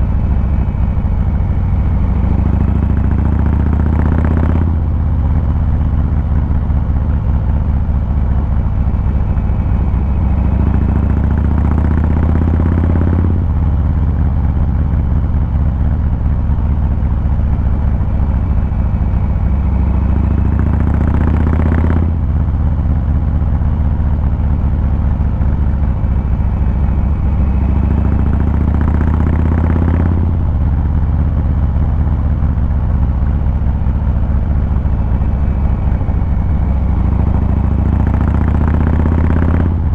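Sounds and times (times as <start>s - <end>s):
motorcycle engine exhaust rumble: 0.0s - 39.9s.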